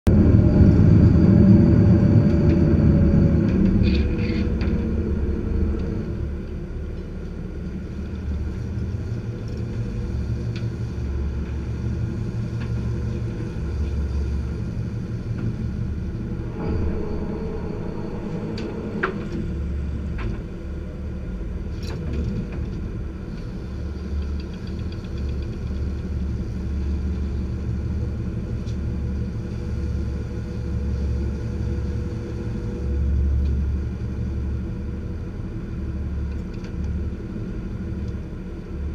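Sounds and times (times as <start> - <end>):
boat engine rumbling: 0.1 - 38.9.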